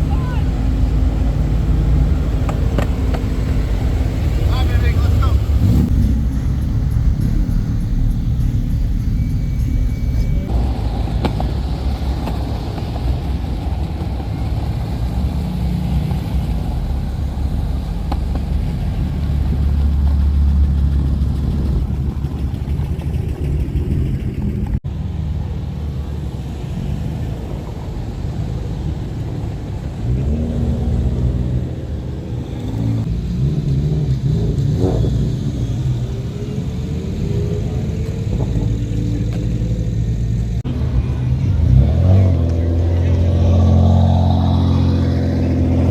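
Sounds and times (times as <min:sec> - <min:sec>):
car engines rumbling and revving: 0:00.0 - 0:45.9.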